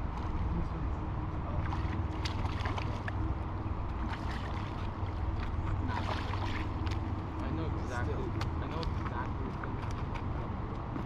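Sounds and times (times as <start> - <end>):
creek water running: 0.0 - 10.7.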